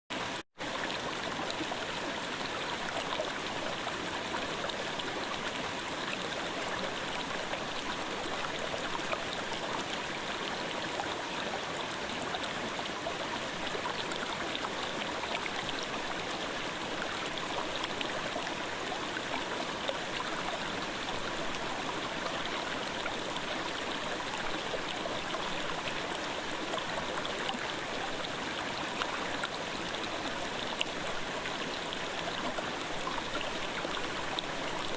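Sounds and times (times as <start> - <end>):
stream babbling over rocks: 0.1 - 34.9.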